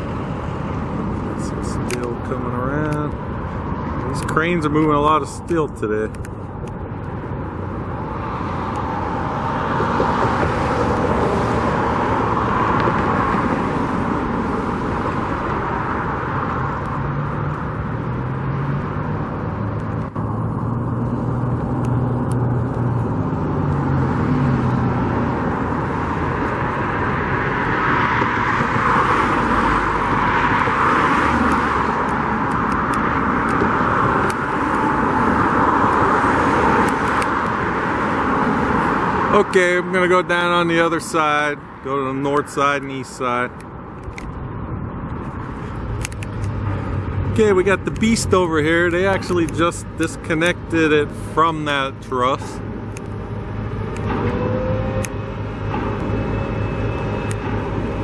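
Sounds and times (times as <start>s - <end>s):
low engine hum: 0.0s - 41.0s, 41.6s - 58.0s
vehicles passing: 0.0s - 58.0s.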